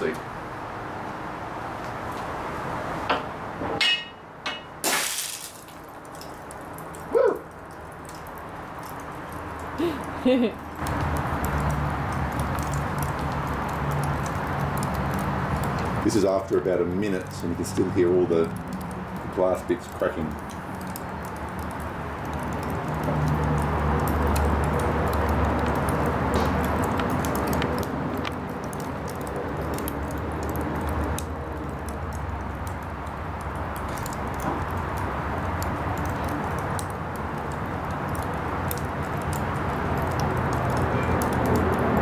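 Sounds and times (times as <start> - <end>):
broken glass cracking and ticking: 4.6 - 42.0.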